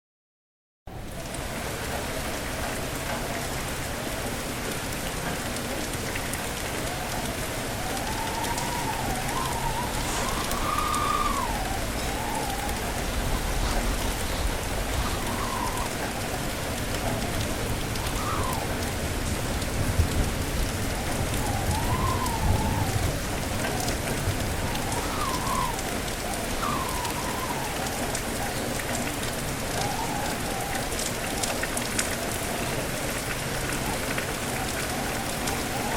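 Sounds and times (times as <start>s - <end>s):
heavy rain hissing: 0.9s - 35.9s
wind gusting and whistling: 3.2s - 35.9s.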